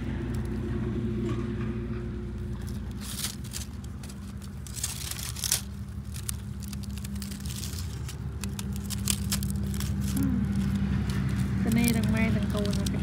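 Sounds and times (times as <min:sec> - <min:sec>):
dry leaves crackling and rustling: 0:00.0 - 0:13.0
steady low hum: 0:00.0 - 0:13.0.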